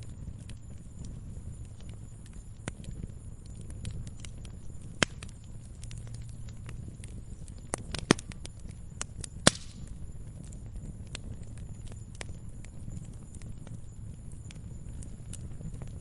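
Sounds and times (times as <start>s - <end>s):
low rumble of flames: 0.0s - 16.0s
sharp pops of burning wood: 0.0s - 16.0s
wood fire crackling: 0.0s - 16.0s.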